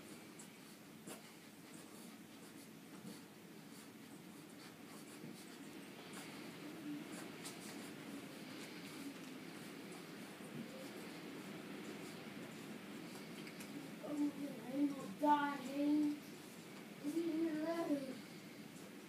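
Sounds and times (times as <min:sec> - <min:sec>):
puppies shuffling on bedding: 0:00.0 - 0:19.0.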